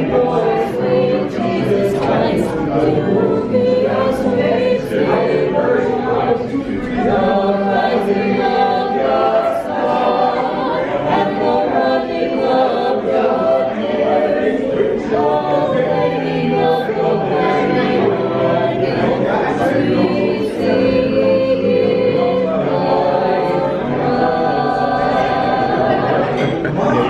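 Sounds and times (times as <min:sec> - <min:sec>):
vocal quartet singing carol: 0:00.0 - 0:27.0.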